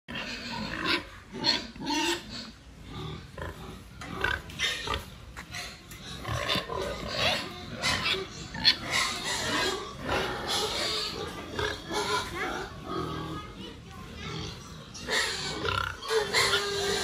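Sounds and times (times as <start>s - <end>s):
pig grunting: 0.1s - 17.0s.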